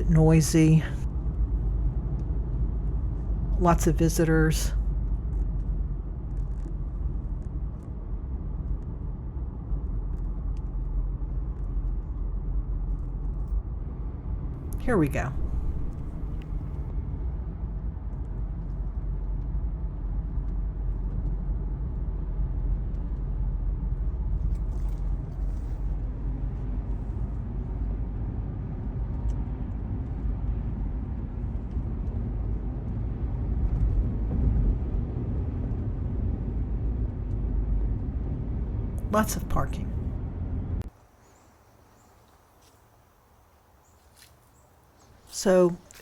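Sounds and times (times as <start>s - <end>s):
car road and engine rumble: 0.0s - 46.0s.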